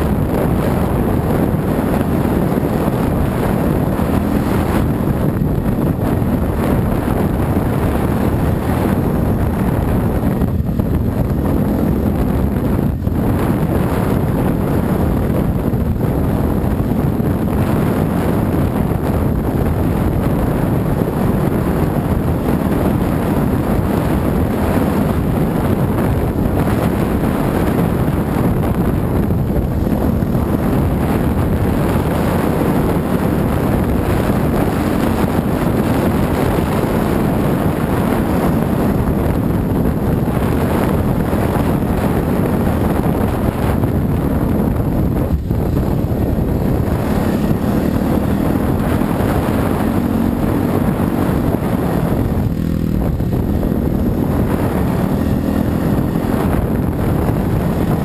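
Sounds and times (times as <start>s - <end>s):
dirt bike engine running: 0.0s - 58.0s
wind buffeting microphone: 0.0s - 58.0s.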